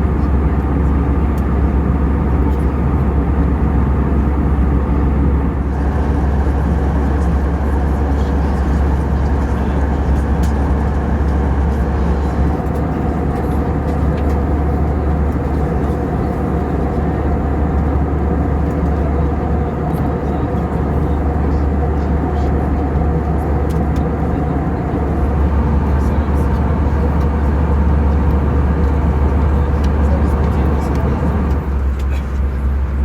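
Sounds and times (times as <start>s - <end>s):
engine rumble and rushing airflow: 0.0s - 33.0s.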